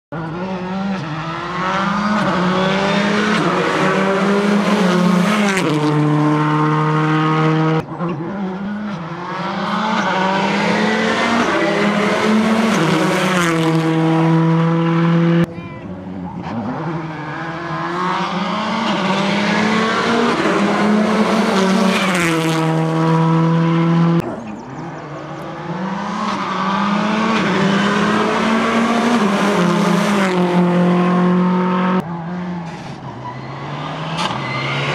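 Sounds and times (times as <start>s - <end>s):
rally car engines revving: 0.1s - 34.9s.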